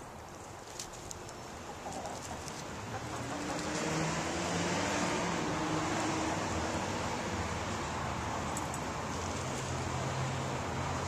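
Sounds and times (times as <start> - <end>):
vehicle engine humming: 1.7 - 11.0.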